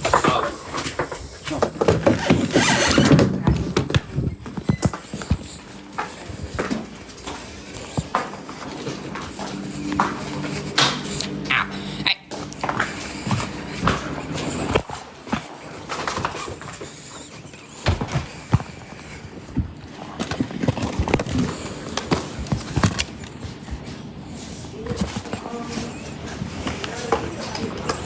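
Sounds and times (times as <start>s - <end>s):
person moving about: 0.0s - 28.0s.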